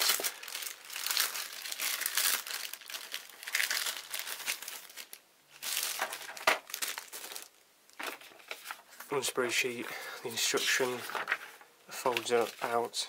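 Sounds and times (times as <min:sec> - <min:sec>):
plastic bag crinkling: 0:00.0 - 0:09.2, 0:10.4 - 0:13.0.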